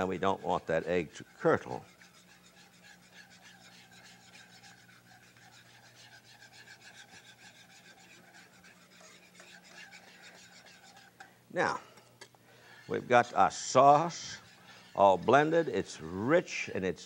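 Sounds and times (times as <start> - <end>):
spoon scraping in pan: 0.0 - 16.7.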